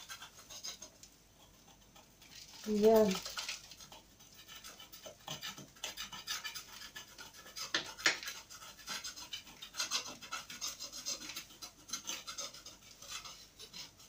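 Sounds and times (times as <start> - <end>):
hand scraper rasping on plaster wall: 0.0 - 2.0, 3.3 - 14.0.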